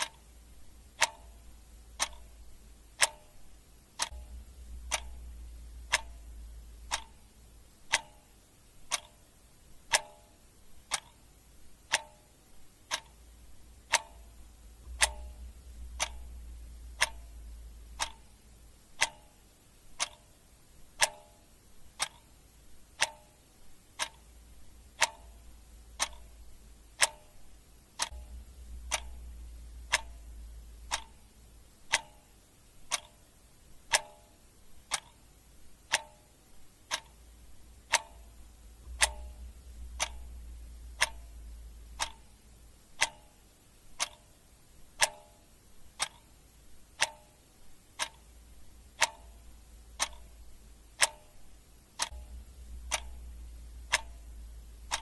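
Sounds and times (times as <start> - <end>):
clock ticking: 0.0 - 55.0
faint low rumble: 0.0 - 55.0.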